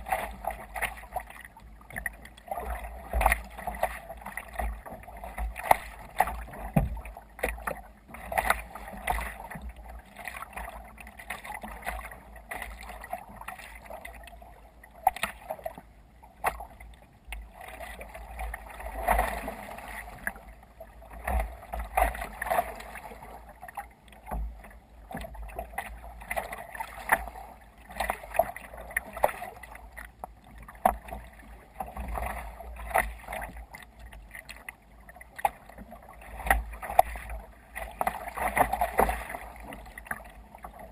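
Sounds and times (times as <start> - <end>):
water splashing against kayak: 0.0 - 40.9.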